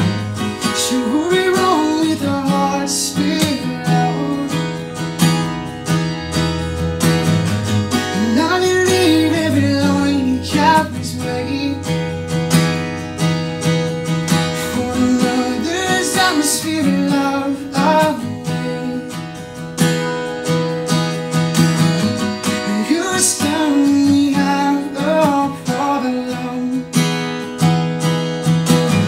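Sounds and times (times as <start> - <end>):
acoustic guitar strumming: 0.0 - 29.0
bending guitar melody: 0.0 - 29.0.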